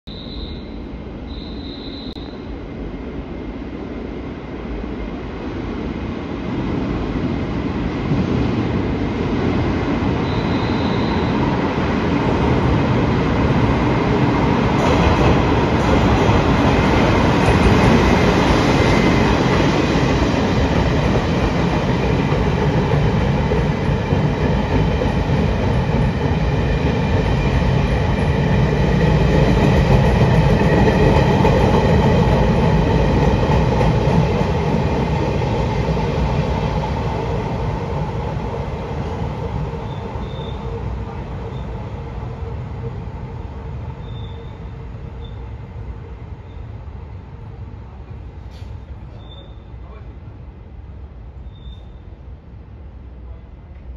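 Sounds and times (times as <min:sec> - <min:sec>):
train wheel and running noise: 0:02.2 - 0:53.9.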